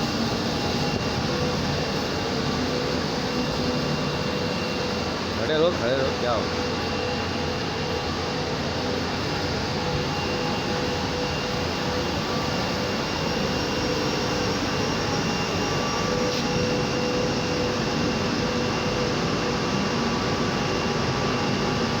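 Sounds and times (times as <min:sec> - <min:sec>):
faint constant tones: 0:00.0 - 0:22.0.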